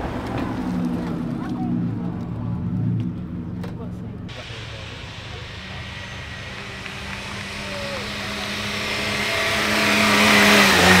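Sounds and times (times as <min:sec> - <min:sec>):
sports car engine climbing: 0:00.0 - 0:11.0.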